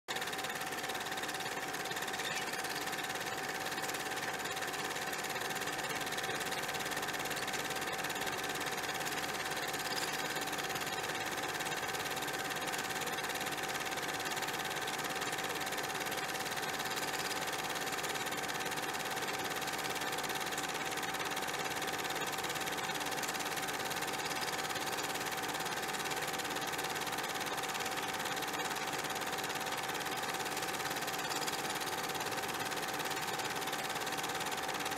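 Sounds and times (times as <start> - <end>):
small machine whirring: 0.1 - 34.9.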